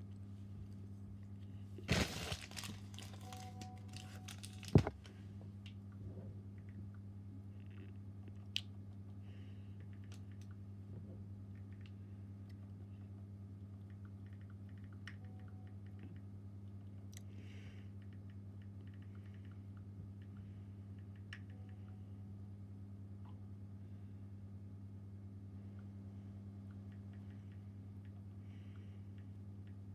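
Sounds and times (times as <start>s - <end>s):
low hum: 0.0s - 29.9s.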